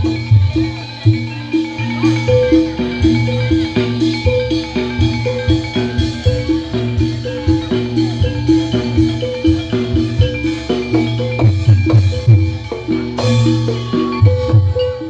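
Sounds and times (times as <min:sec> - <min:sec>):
heavy drum strokes: 0:00.0 - 0:15.0
mallet percussion melody: 0:00.0 - 0:15.0
steady drums: 0:00.0 - 0:15.0.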